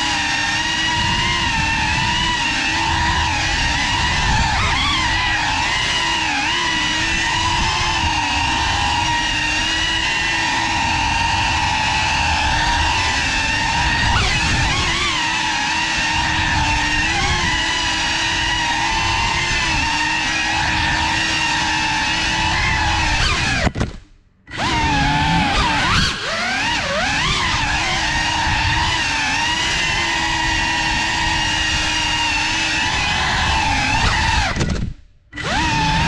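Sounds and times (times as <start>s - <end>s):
quadcopter motors whining: 0.0s - 23.9s, 24.5s - 36.0s.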